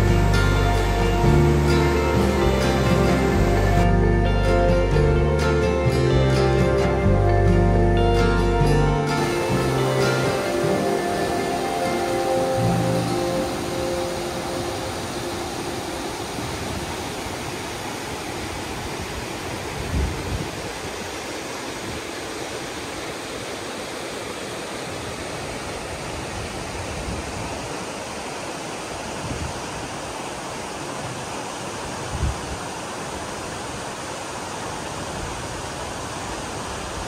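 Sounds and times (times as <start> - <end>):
river rushing over rapids: 0.0 - 37.0.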